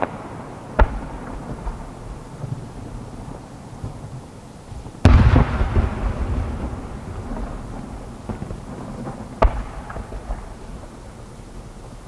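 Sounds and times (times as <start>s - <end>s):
firework shell booming: 0.0s - 2.8s, 3.8s - 11.0s.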